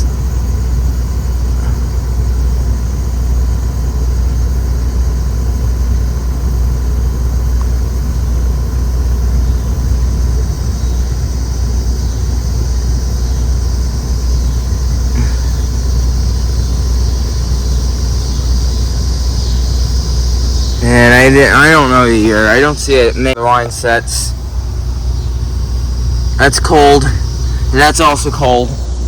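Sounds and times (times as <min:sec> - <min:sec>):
air conditioner running: 0:00.0 - 0:29.0
thin steady tone: 0:00.0 - 0:29.0.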